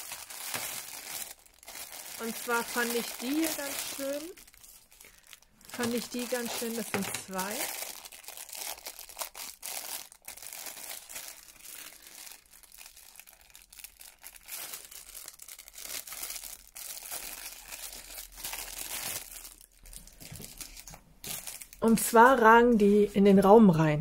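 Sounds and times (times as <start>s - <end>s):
plastic packaging crinkling: 0.0s - 22.9s.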